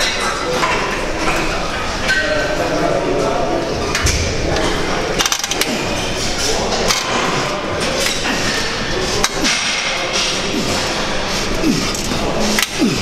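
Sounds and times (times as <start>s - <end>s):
gym background noise: 0.0s - 13.0s.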